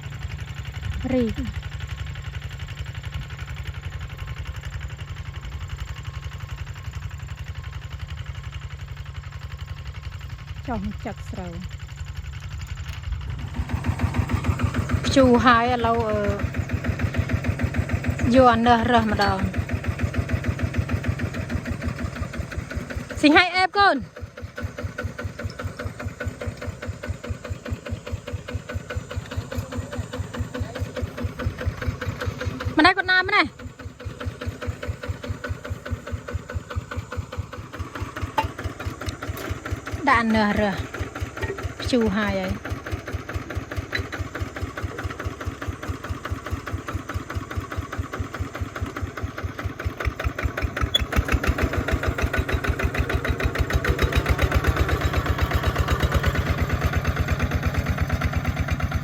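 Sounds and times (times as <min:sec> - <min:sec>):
small engine idling: 0:00.0 - 0:59.0.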